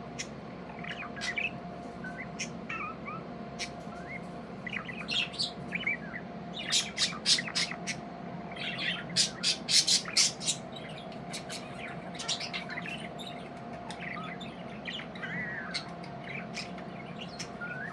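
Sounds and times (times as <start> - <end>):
budgerigars chirping and squawking: 0.0 - 17.9
steady hum: 0.0 - 17.9.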